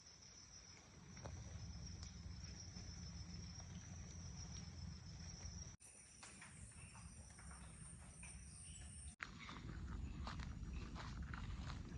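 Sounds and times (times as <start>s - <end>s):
crickets chirring: 0.0s - 11.9s.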